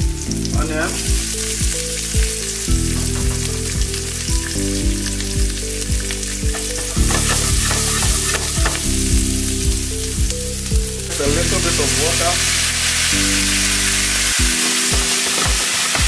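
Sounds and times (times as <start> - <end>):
background music with beat: 0.0 - 16.0
vegetables sizzling in oil: 0.0 - 16.0.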